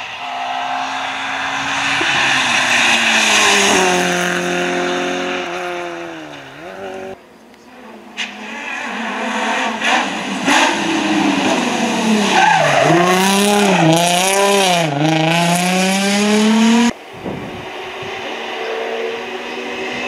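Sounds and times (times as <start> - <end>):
rally car engine revving: 0.0 - 17.0, 17.7 - 20.0.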